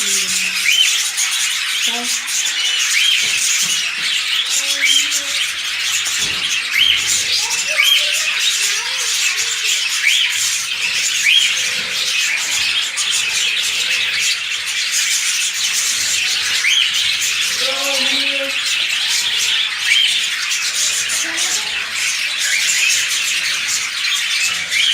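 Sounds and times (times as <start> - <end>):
lovebirds chattering: 0.0 - 24.9.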